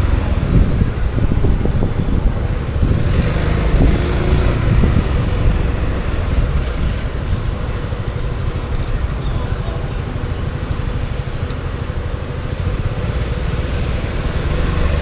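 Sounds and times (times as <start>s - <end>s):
road noise: 0.0s - 15.0s
scooter engine: 0.0s - 15.0s
wind buffeting microphone: 0.0s - 15.0s.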